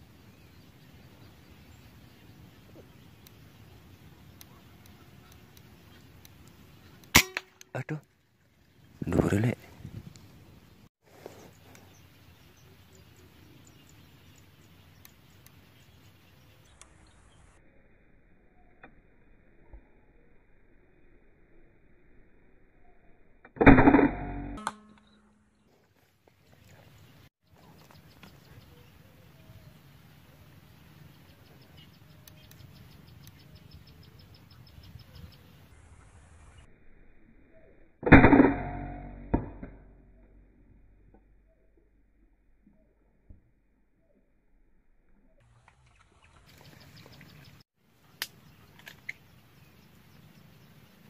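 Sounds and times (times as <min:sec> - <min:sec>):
birds calling faintly: 0:00.0 - 0:20.3, 0:24.9 - 0:36.8, 0:40.0 - 0:51.0.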